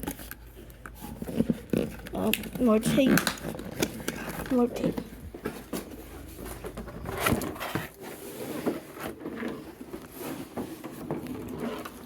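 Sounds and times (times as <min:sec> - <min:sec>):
cardboard box rustling and scraping: 0:01.0 - 0:12.0.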